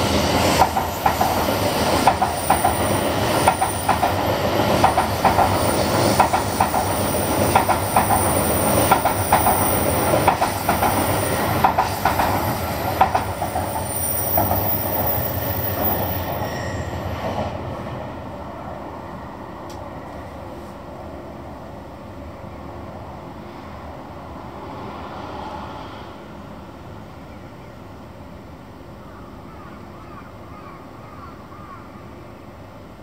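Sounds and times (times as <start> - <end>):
train rumble and hiss: 0.0 - 33.0.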